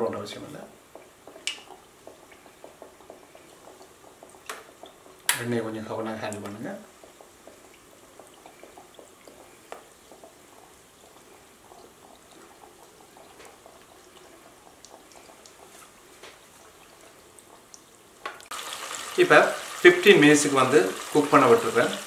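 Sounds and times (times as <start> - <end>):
food deep-frying in bubbling oil: 0.2 - 22.0.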